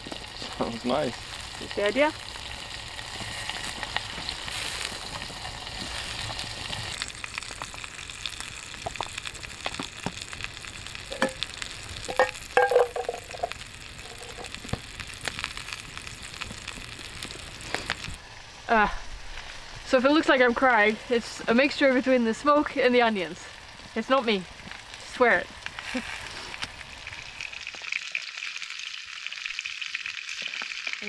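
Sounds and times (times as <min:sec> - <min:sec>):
meatballs sizzling in a pan: 0:00.0 - 0:31.0
wood fire crackling: 0:00.0 - 0:31.0.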